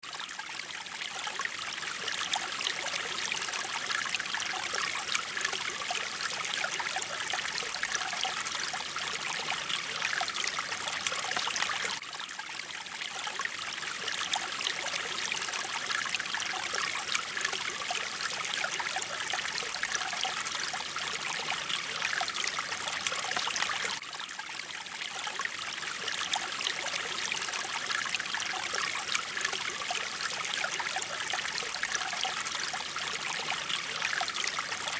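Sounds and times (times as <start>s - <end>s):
mountain stream flowing: 0.0s - 34.9s.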